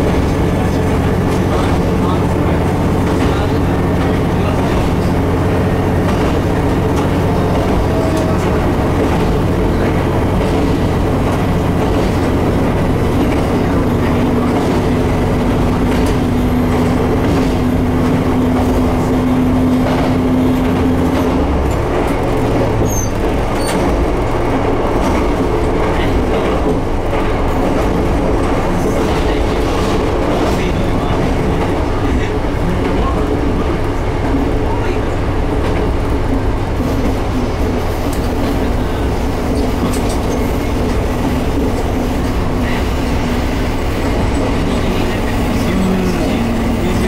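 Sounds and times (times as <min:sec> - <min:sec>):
diesel railcar engine droning: 0:00.0 - 0:47.0
wheels clicking over rails: 0:00.0 - 0:47.0.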